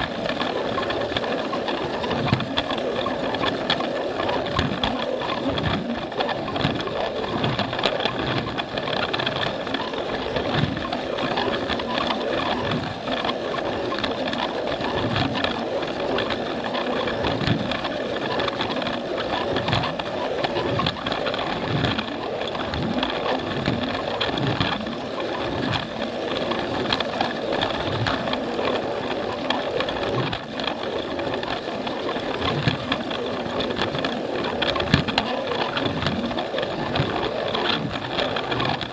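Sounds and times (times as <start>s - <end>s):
toy train motor running: 0.0s - 38.9s.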